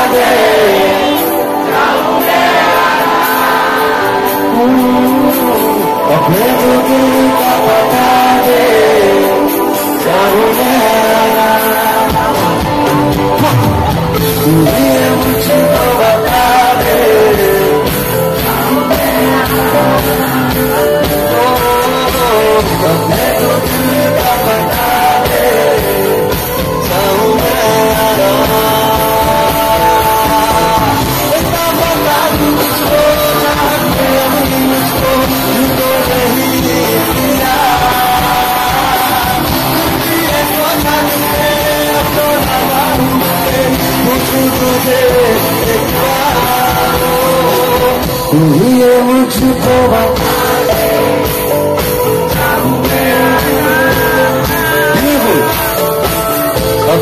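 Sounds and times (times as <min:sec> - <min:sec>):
acoustic guitar: 0:00.0 - 0:57.0
bass guitar: 0:00.0 - 0:57.0
drum kit: 0:00.0 - 0:57.0
keyboard playing: 0:00.0 - 0:57.0
singer's voice: 0:00.0 - 0:57.0.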